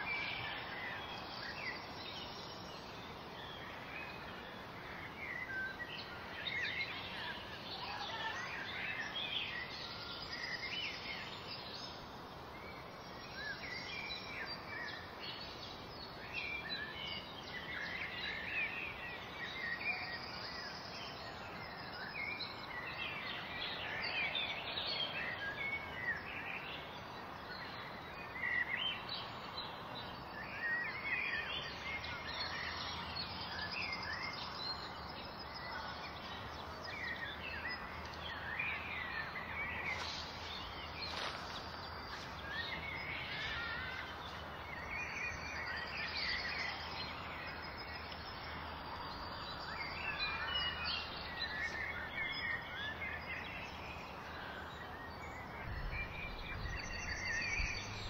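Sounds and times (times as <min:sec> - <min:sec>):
outdoor background hiss: 0:00.0 - 0:58.0
songbirds chirping and singing: 0:00.0 - 0:58.0.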